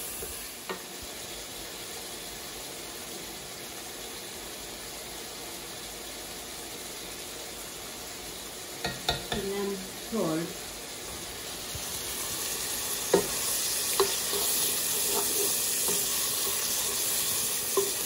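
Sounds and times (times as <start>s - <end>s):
onions sizzling in a pot: 0.0s - 18.0s.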